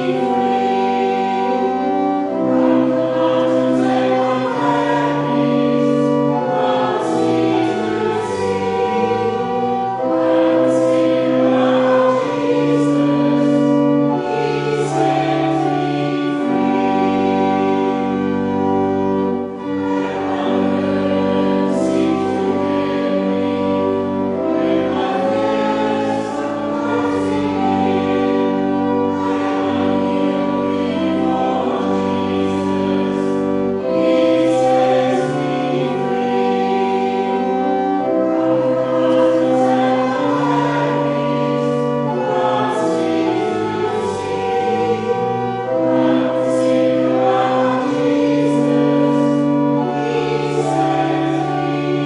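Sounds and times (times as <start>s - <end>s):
church organ chords: 0.0s - 52.0s
congregation singing a hymn: 0.0s - 52.0s.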